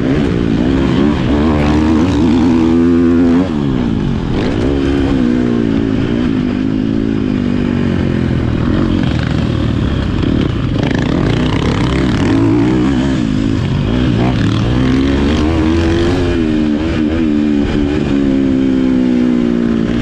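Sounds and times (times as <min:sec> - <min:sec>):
motocross bike engine: 0:00.0 - 0:20.0.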